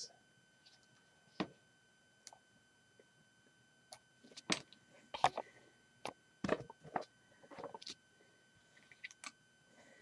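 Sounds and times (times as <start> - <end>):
faint steady high whine: 0.0 - 10.0.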